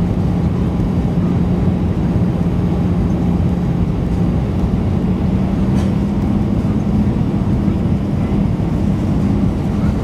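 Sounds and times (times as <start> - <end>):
constant low hum: 0.0 - 10.0
jet engine cabin drone: 0.0 - 10.0.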